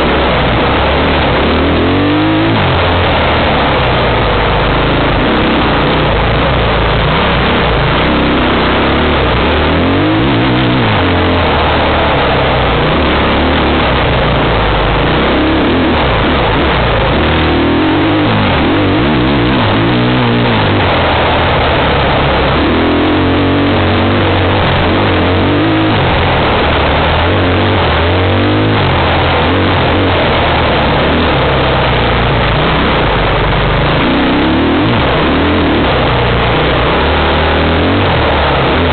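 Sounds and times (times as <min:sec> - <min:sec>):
loud rushing noise on microphone: 0:00.0 - 0:38.9
off-road vehicle engine: 0:00.0 - 0:38.9.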